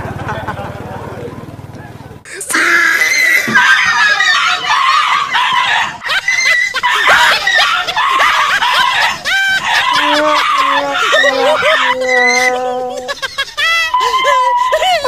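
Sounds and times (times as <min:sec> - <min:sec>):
children screaming and laughing: 0:02.3 - 0:15.0.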